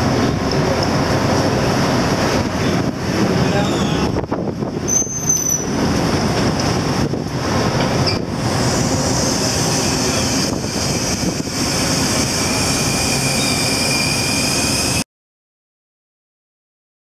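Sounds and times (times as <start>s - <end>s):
ship machinery: 0.0s - 15.0s
wind roar: 0.0s - 15.0s.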